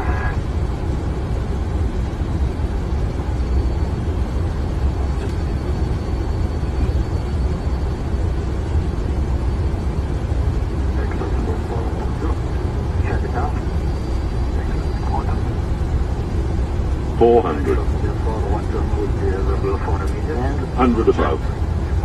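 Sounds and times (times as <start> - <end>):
airflow and engine rumble: 0.0 - 22.0
faint high whine: 0.0 - 22.0.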